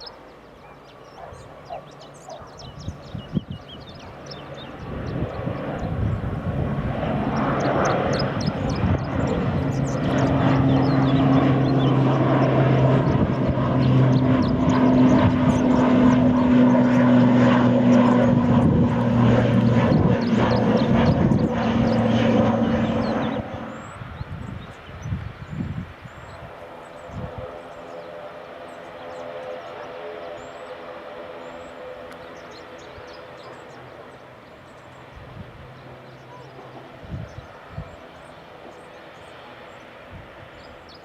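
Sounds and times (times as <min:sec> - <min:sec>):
airliner engines droning: 0:00.0 - 0:41.0.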